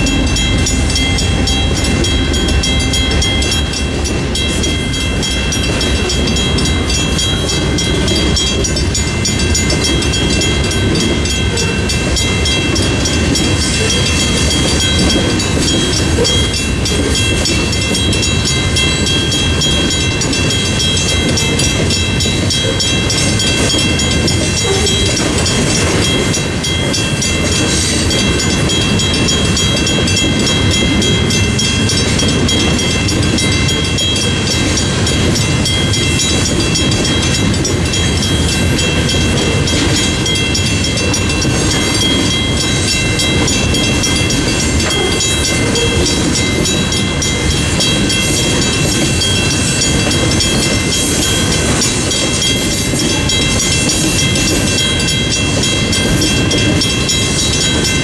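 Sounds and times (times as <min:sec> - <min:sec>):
high ringing tones: 0:00.0 - 0:58.0
train wheels rumbling on rail: 0:00.0 - 0:58.0.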